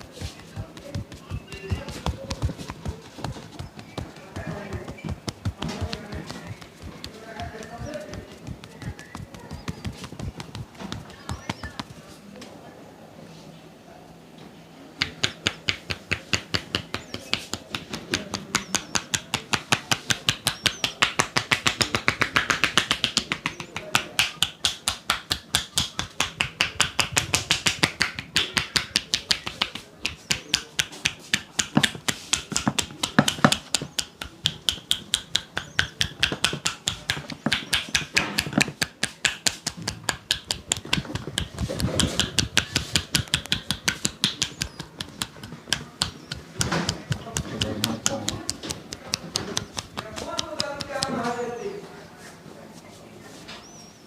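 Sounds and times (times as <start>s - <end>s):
hands slapping on a head: 0.0s - 12.2s, 15.0s - 51.4s.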